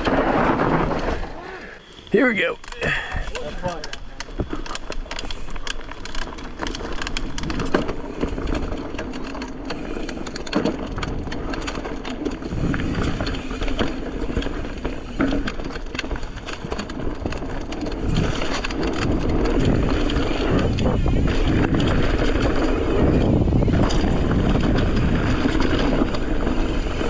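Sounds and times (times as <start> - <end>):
bike chain and frame rattling: 0.0 - 27.0
bike tyres rolling over dirt: 0.0 - 27.0.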